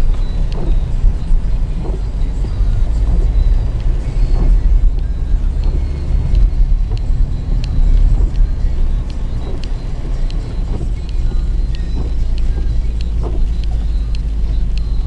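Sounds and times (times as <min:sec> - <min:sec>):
car engine and road rumble: 0:00.0 - 0:15.0
faint irregular ticks: 0:00.0 - 0:15.0.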